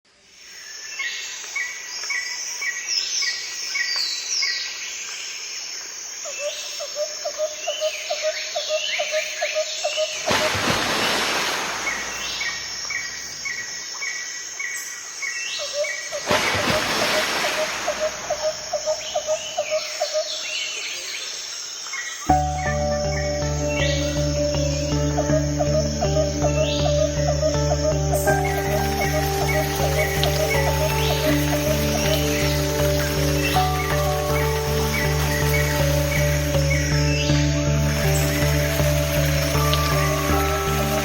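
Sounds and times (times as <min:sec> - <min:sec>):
birds chirping and trilling: 0:06.4 - 0:41.0.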